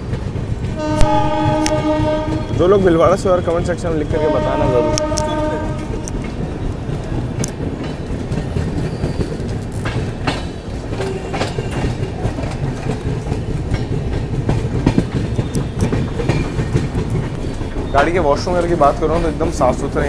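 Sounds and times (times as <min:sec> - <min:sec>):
train running gear rumble: 0:00.0 - 0:20.0
wheels clacking over rail joints: 0:00.0 - 0:20.0.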